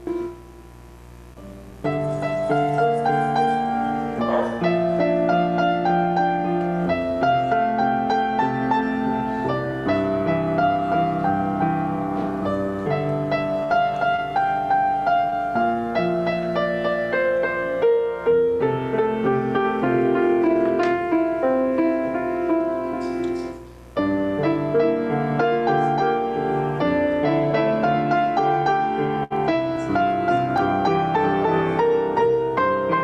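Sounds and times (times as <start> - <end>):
calm piano music: 0.0 - 0.8, 1.4 - 33.0.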